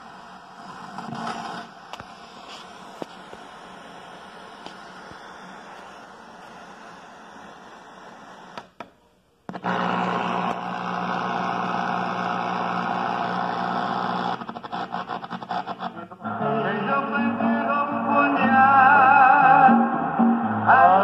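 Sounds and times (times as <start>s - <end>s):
music from radio: 0.0s - 8.8s, 9.5s - 21.0s
radio static hiss: 0.0s - 17.1s.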